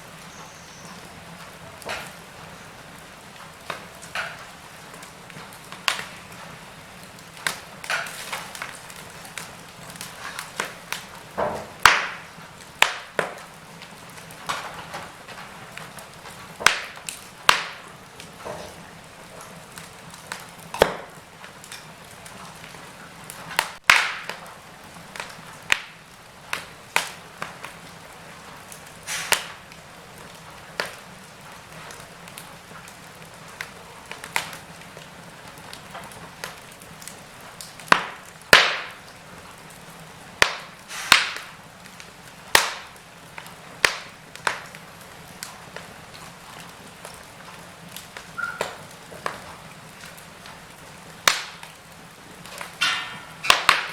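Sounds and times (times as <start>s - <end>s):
wood fire crackling: 0.0s - 53.9s
fire pops and snaps: 0.1s - 53.9s.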